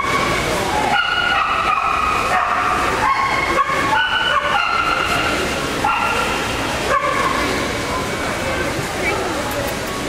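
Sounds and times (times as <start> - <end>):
busy hall background noise: 0.0 - 10.0.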